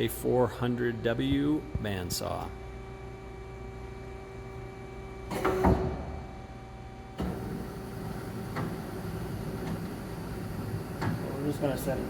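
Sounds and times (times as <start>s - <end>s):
machine hum with tones: 0.0s - 12.0s.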